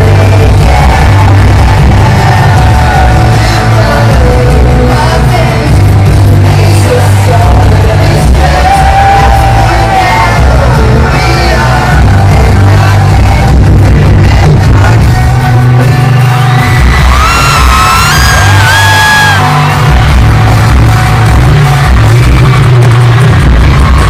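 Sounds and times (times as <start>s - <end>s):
sung lead vocal: 0.0s - 19.8s
crowd singing and yelling: 0.0s - 24.0s
live rock band playing: 0.0s - 24.0s.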